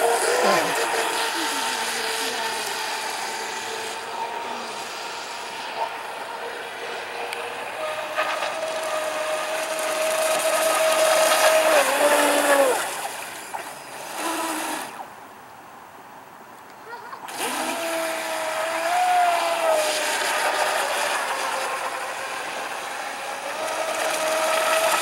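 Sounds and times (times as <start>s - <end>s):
toy boat electric motor whining: 0.0s - 15.1s, 17.0s - 25.0s.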